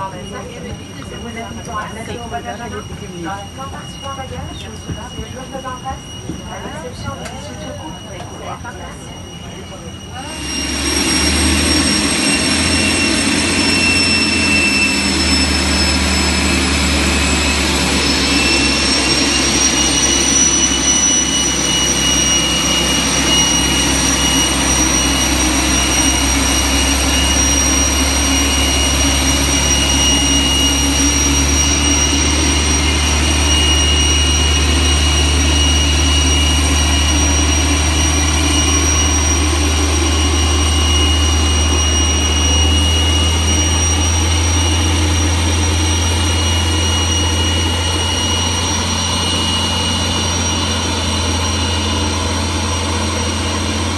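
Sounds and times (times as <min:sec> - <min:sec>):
jet engine whine: 0:00.0 - 0:53.9.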